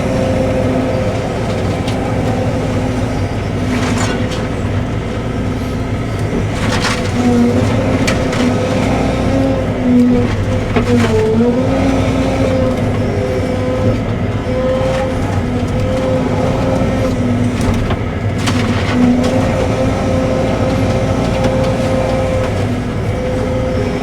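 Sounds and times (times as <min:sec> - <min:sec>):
excavator engine and hydraulics: 0:00.0 - 0:24.0
hydraulic whine: 0:00.0 - 0:24.0.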